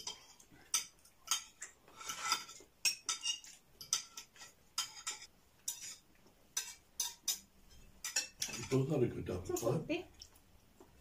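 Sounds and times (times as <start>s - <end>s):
cutlery scraping and clinking on plates: 0.0s - 9.8s.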